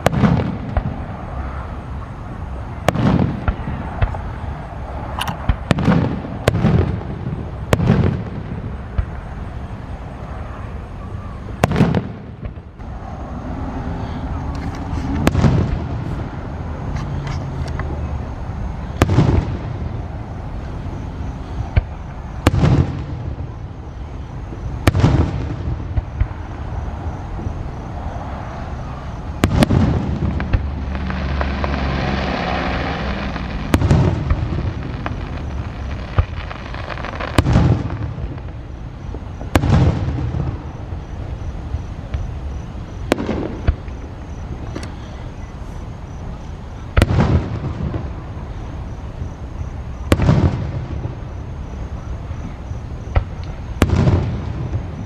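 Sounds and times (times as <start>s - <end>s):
fireworks bursting: 0.0s - 55.0s
fireworks crackling: 0.0s - 55.0s
rolling rumble: 0.0s - 55.0s.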